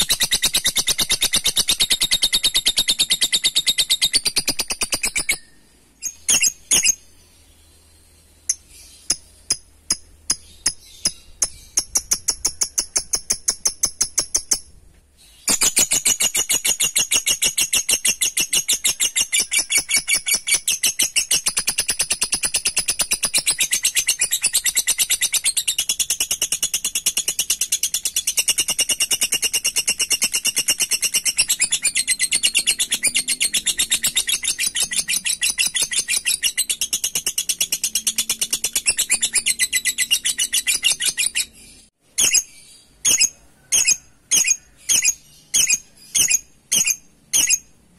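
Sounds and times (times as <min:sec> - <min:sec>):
lovebird sharp high chirps: 0:00.0 - 0:07.1, 0:08.4 - 0:47.7.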